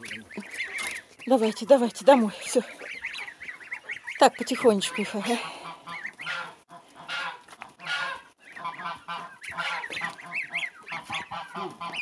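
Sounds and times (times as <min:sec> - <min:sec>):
goslings peeping: 0:00.0 - 0:12.0.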